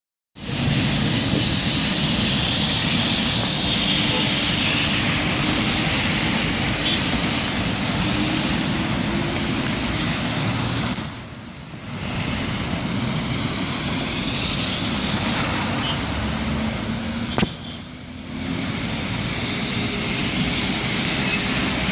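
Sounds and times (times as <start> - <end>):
heavy rain: 0.4 - 21.9
traffic on a wet road: 0.4 - 21.9.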